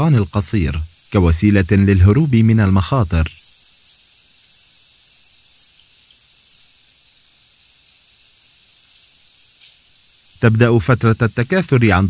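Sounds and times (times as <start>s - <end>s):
insects chirring: 0.0s - 12.0s
pulsing insect layer: 0.0s - 12.0s.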